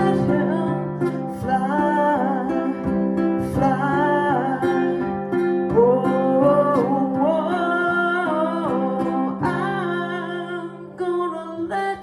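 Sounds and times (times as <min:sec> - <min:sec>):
acoustic guitar chords: 0:00.0 - 0:12.0
person singing: 0:00.0 - 0:12.0.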